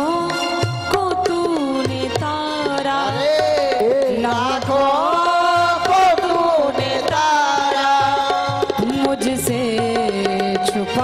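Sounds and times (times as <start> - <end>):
hand drum rhythm: 0.0 - 11.0.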